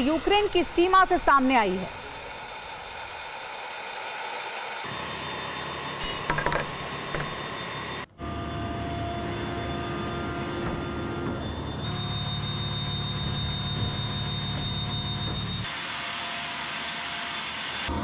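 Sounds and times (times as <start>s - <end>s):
high whining tones: 0.0s - 17.9s.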